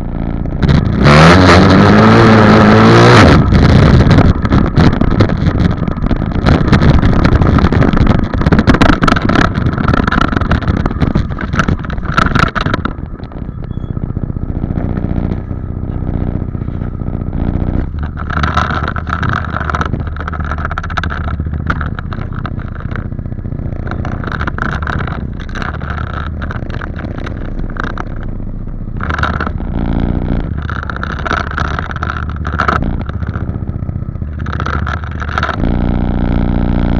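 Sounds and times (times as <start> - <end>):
dirt bike engine idling and revving: 0.0 - 36.9.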